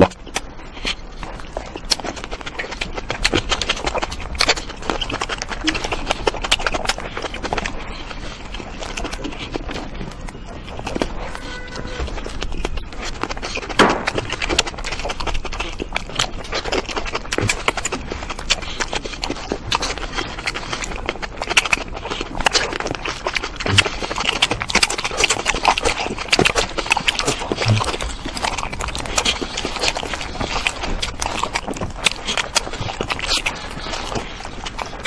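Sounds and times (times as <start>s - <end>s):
person chewing wetly: 0.0s - 35.0s.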